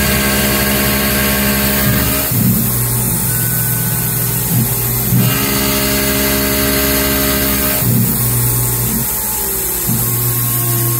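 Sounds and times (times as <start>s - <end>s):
milling machine spindle running: 0.0s - 10.9s
multi-pitch hum: 0.0s - 10.9s.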